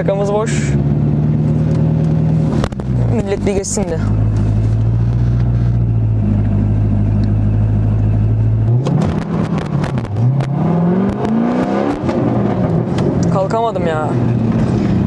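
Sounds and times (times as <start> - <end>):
car engine revving and pulling away: 0.0 - 15.0.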